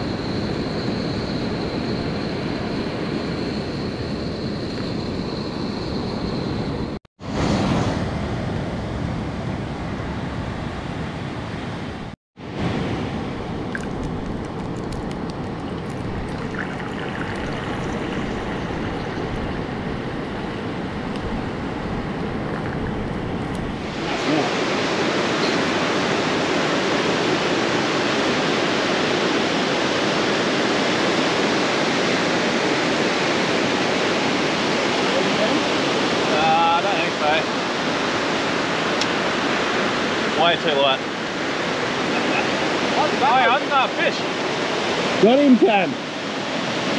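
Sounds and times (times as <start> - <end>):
wind: 0.0 - 46.9.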